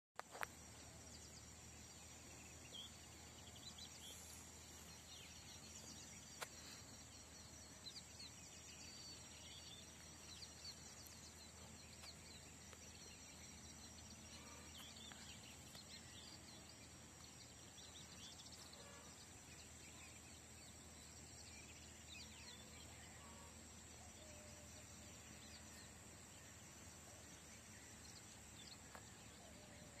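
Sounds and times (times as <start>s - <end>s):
insect trill: 0.2s - 30.0s
small birds chirping: 0.2s - 30.0s.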